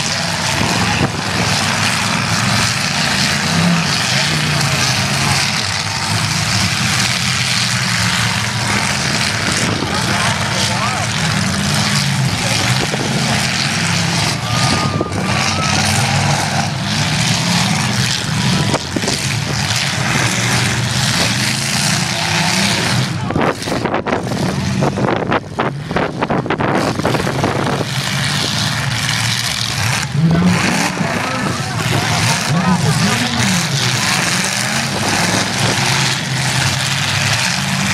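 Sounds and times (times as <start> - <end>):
car engines revving: 0.0 - 37.9.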